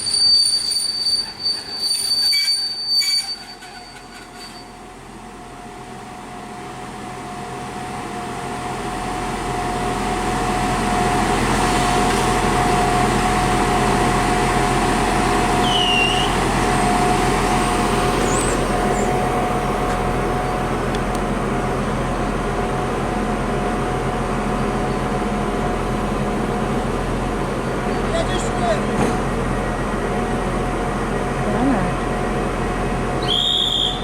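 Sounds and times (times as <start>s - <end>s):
diesel train running: 0.0s - 34.0s.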